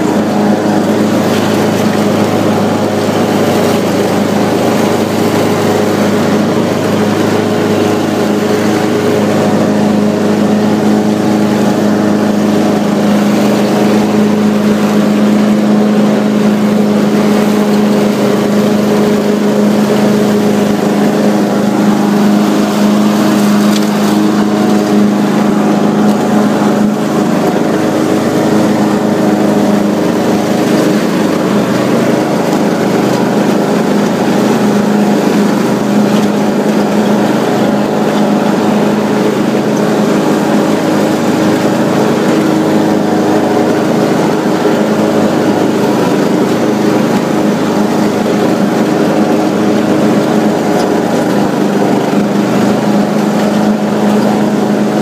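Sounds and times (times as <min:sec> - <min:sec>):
lawn tractor mowing: 0:00.0 - 0:55.0.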